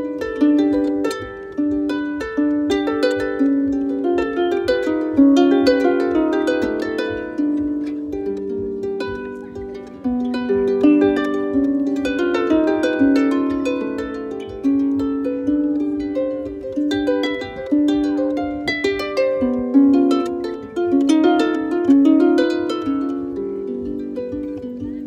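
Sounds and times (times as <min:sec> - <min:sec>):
harp melody: 0:00.0 - 0:25.0.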